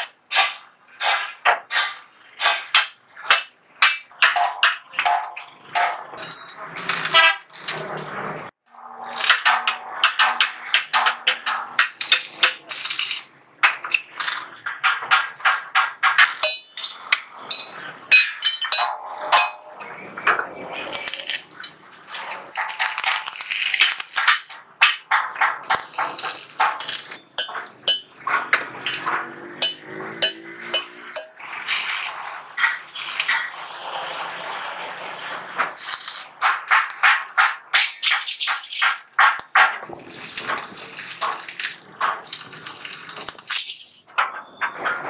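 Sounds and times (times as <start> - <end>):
hammer striking sheet steel: 0.0 - 8.2, 9.1 - 21.7, 23.7 - 33.5, 35.6 - 44.3.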